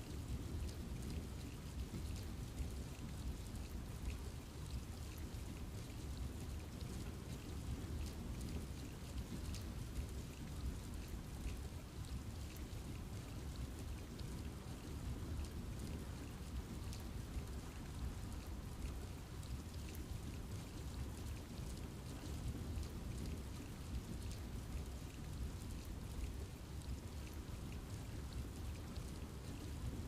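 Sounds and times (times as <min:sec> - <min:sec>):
raindrops pattering on leaves: 0:00.0 - 0:30.0
steady rainfall rumble: 0:00.0 - 0:30.0.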